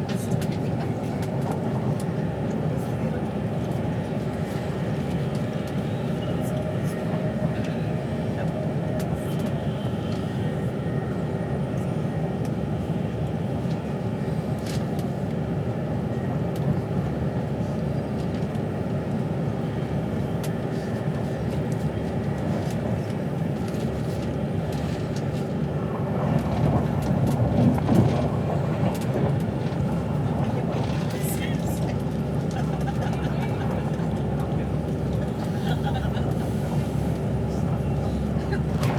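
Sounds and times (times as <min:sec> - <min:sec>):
train rumble inside carriage: 0:00.0 - 0:38.9.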